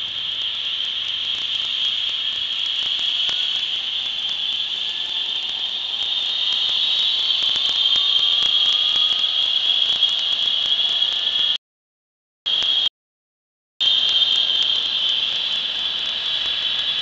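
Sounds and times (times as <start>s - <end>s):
helicopter turbine engines whining: 0.0s - 11.6s, 12.5s - 12.9s, 13.8s - 17.0s.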